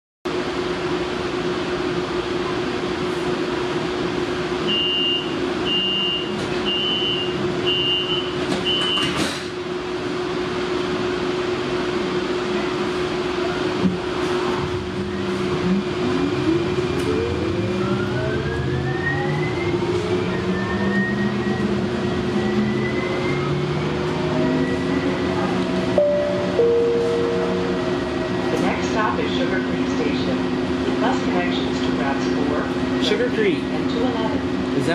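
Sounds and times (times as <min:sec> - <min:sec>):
train car hum: 0:00.3 - 0:34.9.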